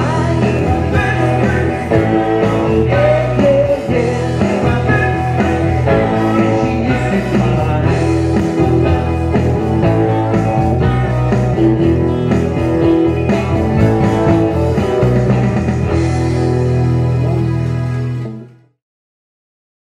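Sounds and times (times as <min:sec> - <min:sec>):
live rock band playing: 0:00.0 - 0:18.7.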